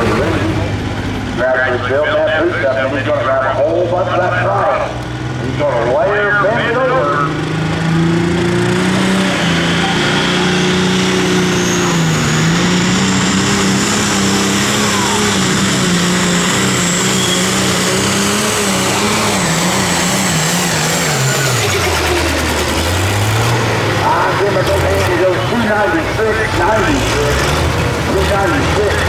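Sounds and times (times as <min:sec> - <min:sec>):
tractor engine at full throttle: 0:00.0 - 0:29.0.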